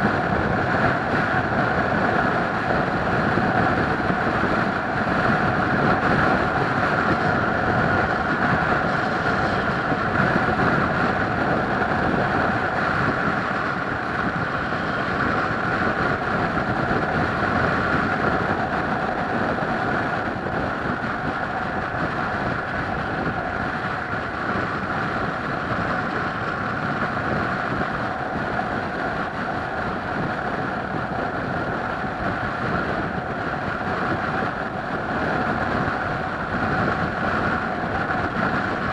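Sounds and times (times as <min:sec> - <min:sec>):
moving vehicle drone: 0:00.0 - 0:38.9.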